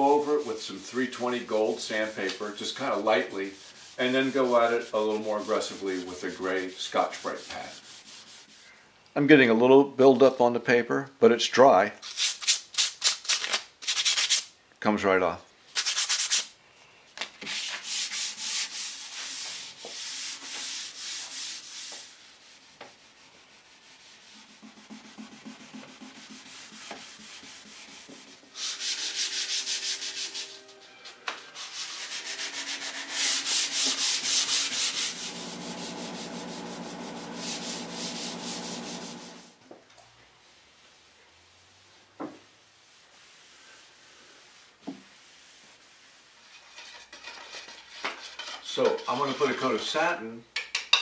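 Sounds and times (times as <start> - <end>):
hand sanding wood: 0.0 - 8.6, 15.8 - 16.5, 17.4 - 39.6, 40.4 - 49.8.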